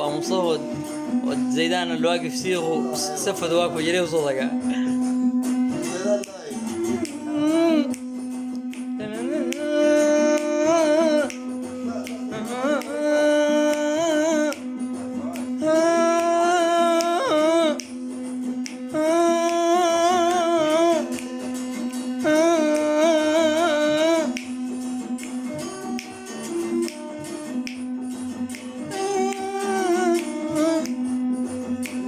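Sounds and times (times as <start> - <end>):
light clicking percussion: 0.0 - 32.0.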